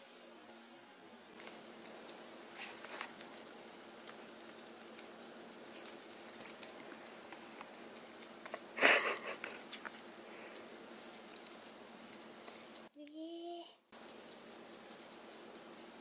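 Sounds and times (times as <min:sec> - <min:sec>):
ferret licking and chewing: 0:01.4 - 0:12.9, 0:13.9 - 0:16.0.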